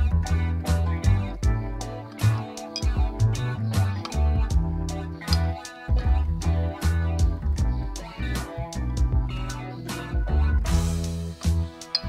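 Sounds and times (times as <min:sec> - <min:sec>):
instrumental music with drum beat: 0:00.0 - 0:12.0.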